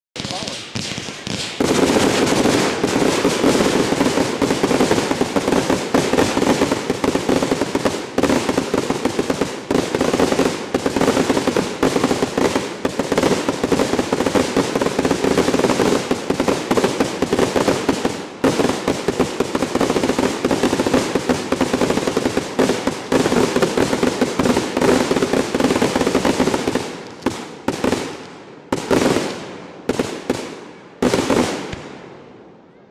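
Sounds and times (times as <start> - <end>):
firework cake firing: 0.2 - 32.1.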